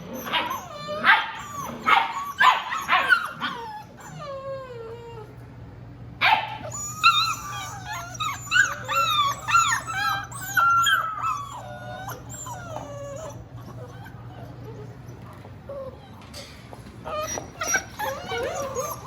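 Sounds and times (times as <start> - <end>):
puppies whining and yelping: 0.0 - 5.5, 6.5 - 19.0.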